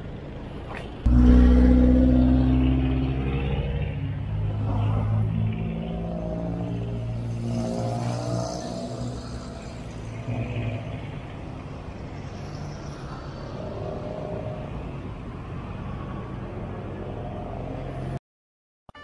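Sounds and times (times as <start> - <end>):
traffic rumble: 0.0 - 18.2.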